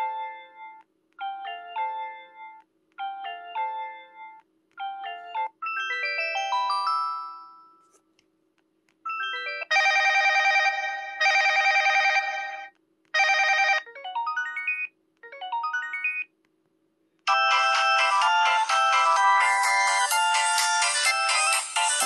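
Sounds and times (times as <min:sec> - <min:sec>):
phone ringtone electronic notes: 0:00.0 - 0:08.0, 0:09.1 - 0:12.6, 0:13.2 - 0:16.3, 0:17.3 - 0:22.0.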